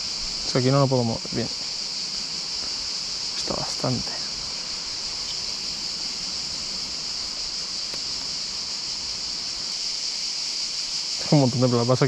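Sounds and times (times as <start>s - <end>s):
insects chirring: 0.0s - 12.0s
soft hiss: 0.0s - 12.0s.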